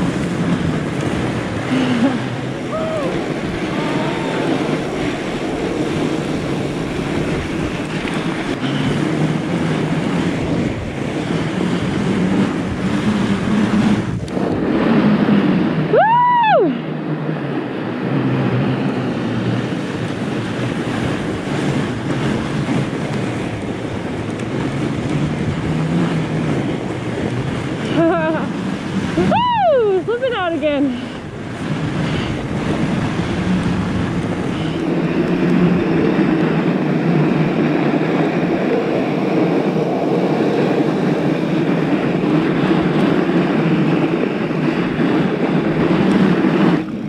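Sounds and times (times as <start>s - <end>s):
bike tyres rolling over snow: 0.0s - 47.0s
wind buffeting microphone: 0.0s - 47.0s.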